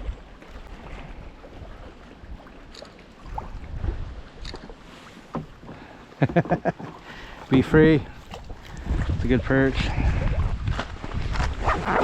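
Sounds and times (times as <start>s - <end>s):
wind rumbling on microphone: 0.0s - 5.7s, 7.2s - 12.0s.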